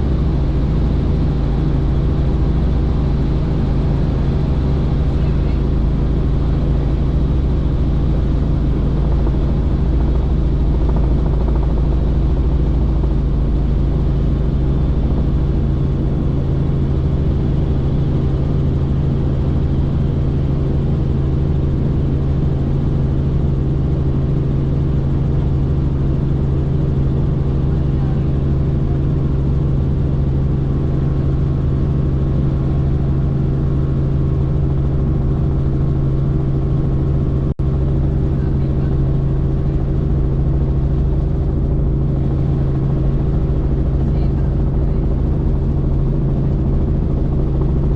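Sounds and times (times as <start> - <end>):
helicopter rotor drone: 0.0 - 47.9.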